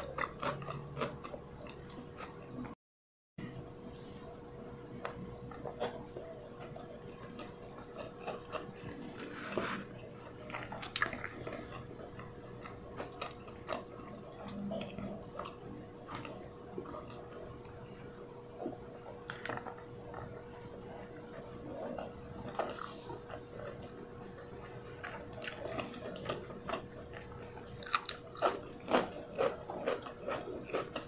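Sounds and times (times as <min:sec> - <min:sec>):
person chewing food: 0:00.0 - 0:02.8, 0:05.0 - 0:31.0
faint steady hum: 0:03.4 - 0:31.0.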